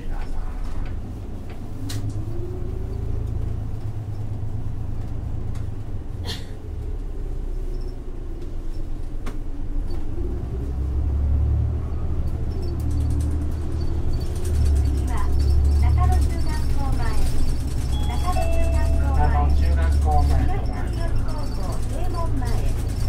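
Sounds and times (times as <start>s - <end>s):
bus engine rumble: 0.0s - 23.0s.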